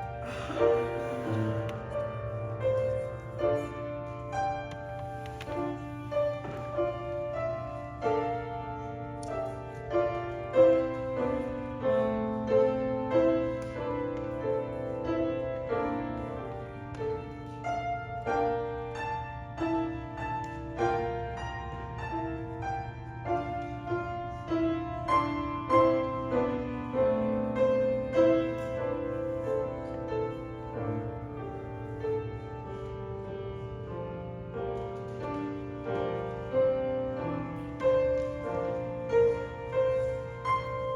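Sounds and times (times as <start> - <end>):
piano notes and chords: 0.0 - 40.9.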